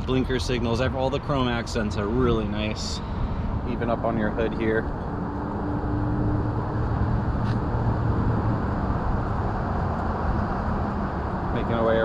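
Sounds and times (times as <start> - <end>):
low outdoor rumble: 0.0 - 12.0
low hum: 1.8 - 11.8.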